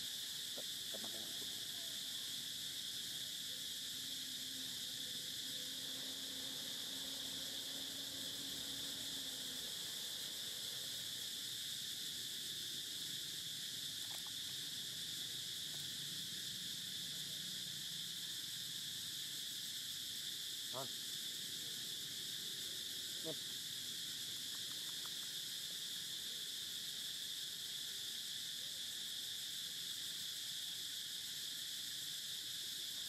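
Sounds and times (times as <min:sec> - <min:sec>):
insect chorus drone: 0:00.0 - 0:33.0.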